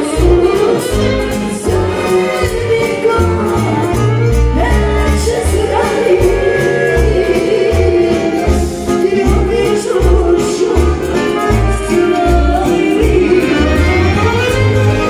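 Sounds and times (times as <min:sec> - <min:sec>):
person singing: 0:00.0 - 0:14.8
live band music: 0:00.0 - 0:15.0.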